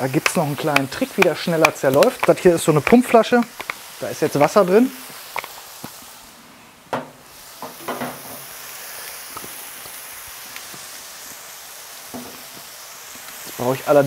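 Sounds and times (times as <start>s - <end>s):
burger patties sizzling: 0.0s - 14.0s.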